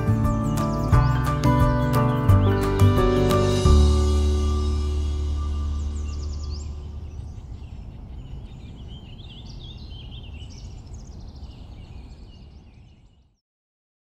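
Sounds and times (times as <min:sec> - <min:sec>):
low outdoor rumble: 0:00.0 - 0:11.6
birds chirping and calling: 0:00.0 - 0:13.3.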